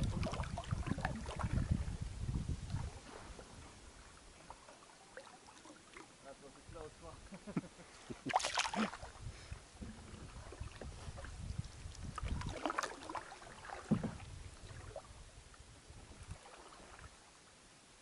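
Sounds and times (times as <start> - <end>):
paddle splashes: 0.0 - 6.6, 7.2 - 17.4
water sloshing against hull: 0.0 - 17.5.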